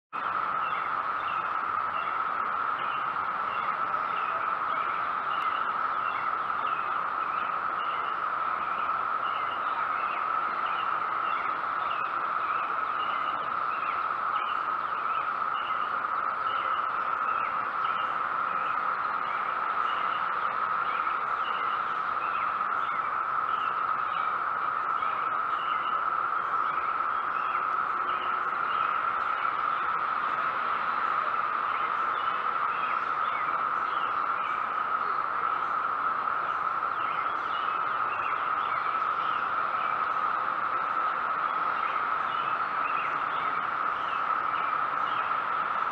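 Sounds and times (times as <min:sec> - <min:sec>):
cicadas droning: 0:00.2 - 0:45.9.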